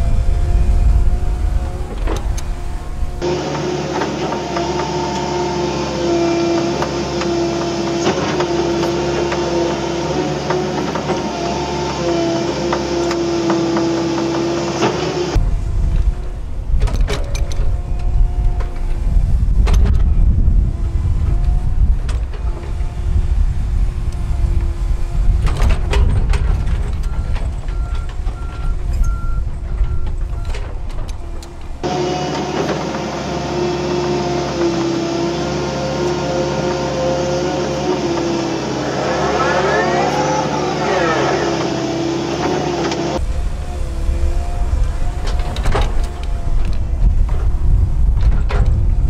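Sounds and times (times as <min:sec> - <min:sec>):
excavator engine and hydraulics whine: 0:00.0 - 0:49.0.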